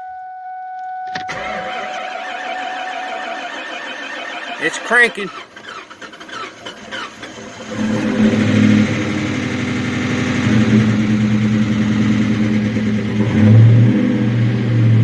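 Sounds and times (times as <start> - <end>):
car engine cranking and starting: 1.1 - 15.0.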